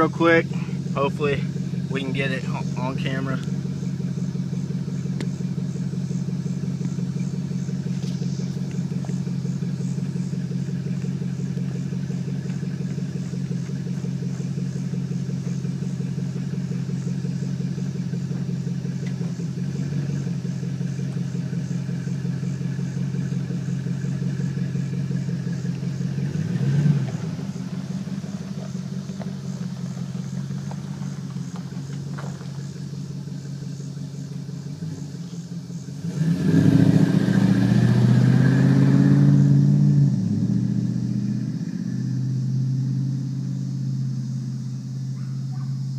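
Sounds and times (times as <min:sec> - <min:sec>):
truck engine droning while driving: 0:00.0 - 0:45.9.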